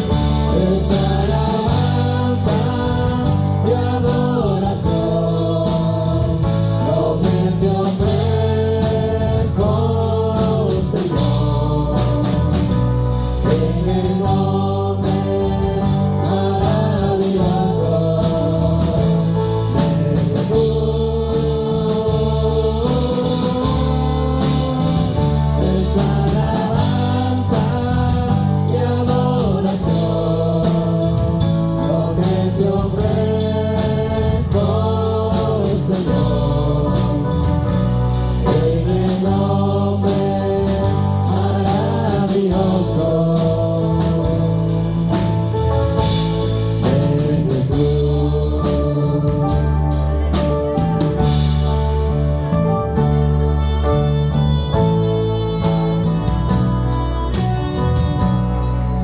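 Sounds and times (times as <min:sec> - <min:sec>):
band with bass line: 0:00.0 - 0:59.0
people singing worship song: 0:00.0 - 0:59.0.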